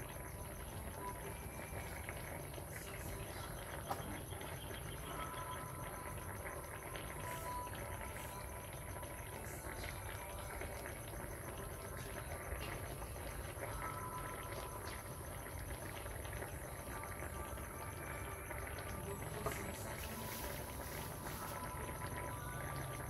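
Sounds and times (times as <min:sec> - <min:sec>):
broth simmering and crackling: 0:00.0 - 0:23.0.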